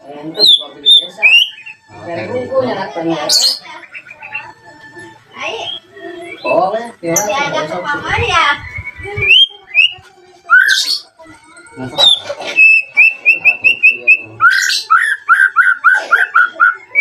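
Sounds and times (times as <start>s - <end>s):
bird singing: 0.2s - 2.4s, 3.3s - 11.2s, 11.8s - 17.0s.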